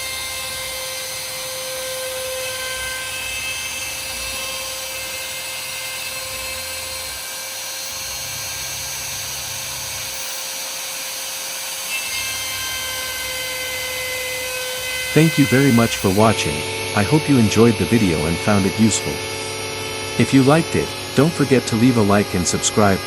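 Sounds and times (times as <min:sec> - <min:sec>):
router spindle whine: 0:00.0 - 0:23.0
stepper motors humming: 0:00.0 - 0:23.0.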